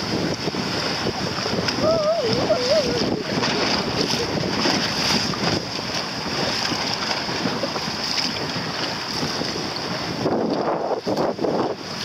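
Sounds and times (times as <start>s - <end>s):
choppy sea water: 0.0s - 12.0s
wind noise on microphone: 0.0s - 12.0s.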